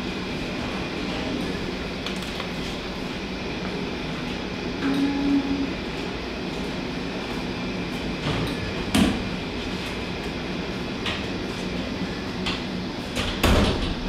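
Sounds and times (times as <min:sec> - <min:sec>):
equipment and ventilation hum: 0:00.0 - 0:14.0.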